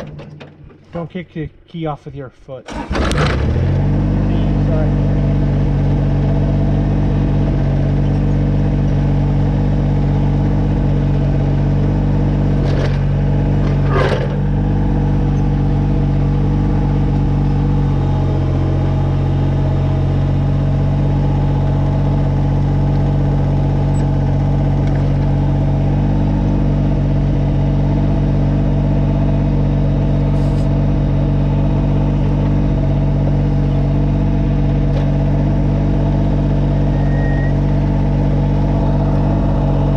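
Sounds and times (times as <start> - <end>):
tractor diesel engine running: 2.7 - 39.9.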